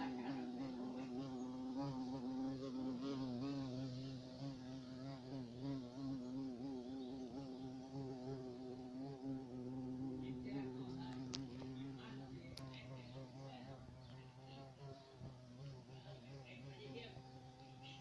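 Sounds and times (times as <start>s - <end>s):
bee buzzing in flight: 0.0s - 18.0s.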